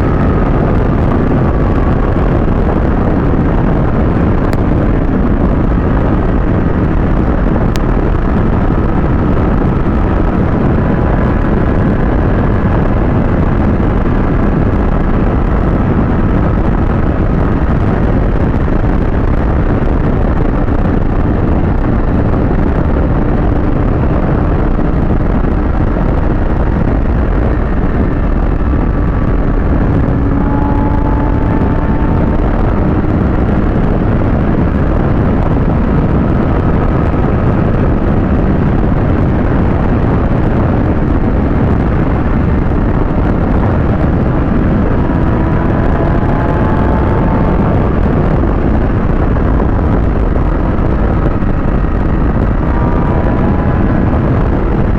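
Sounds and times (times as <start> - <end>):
faint motorcycle engine drone: 0.0 - 54.9
wind buffeting microphone: 0.0 - 54.9.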